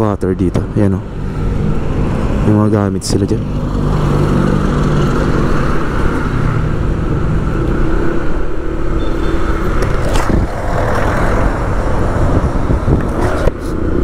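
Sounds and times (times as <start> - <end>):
road traffic: 0.0 - 14.0
vehicle engine rumbling: 0.0 - 14.0.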